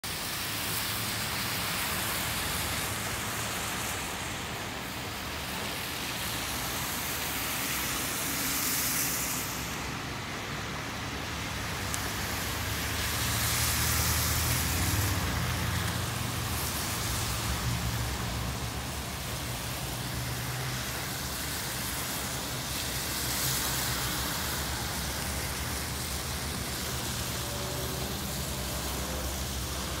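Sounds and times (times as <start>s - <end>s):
tyres hissing on wet road: 0.0s - 30.0s.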